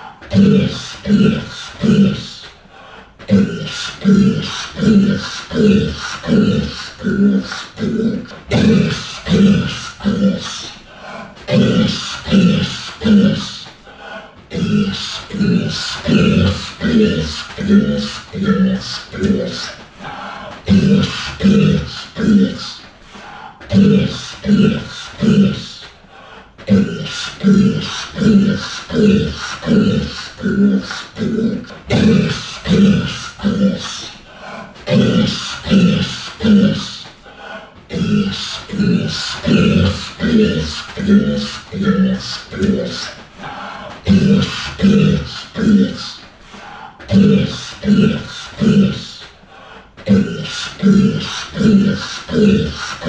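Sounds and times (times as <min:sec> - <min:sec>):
slowed man grunting: 0:00.0 - 0:53.0.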